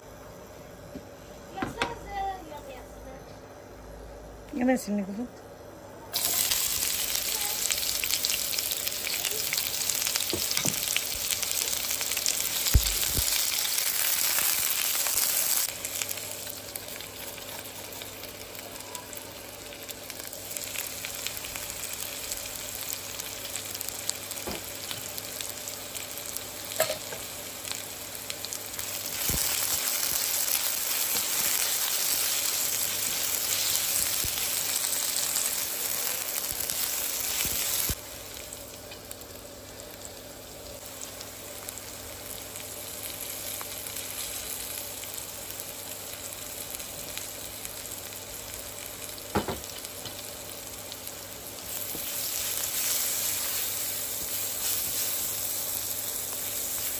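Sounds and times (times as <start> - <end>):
onion sizzling in hot oil: 6.1 - 56.9.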